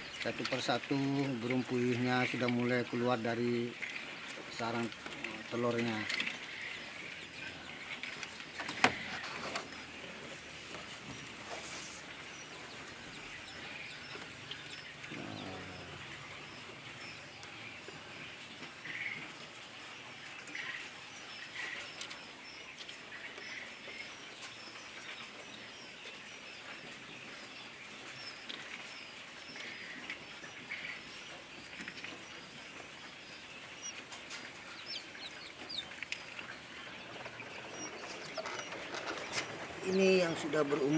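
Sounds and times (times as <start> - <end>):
quail chicks peeping: 0.0 - 40.9.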